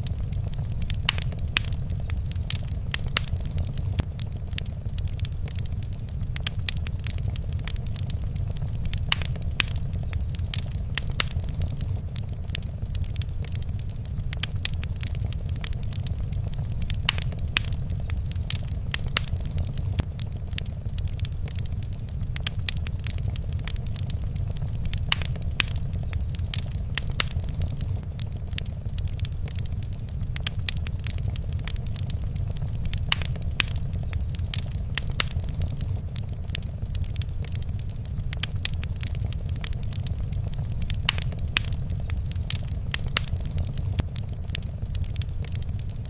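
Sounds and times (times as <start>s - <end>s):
low rumble of fire: 0.0s - 46.0s
wood fire crackling: 0.0s - 46.0s.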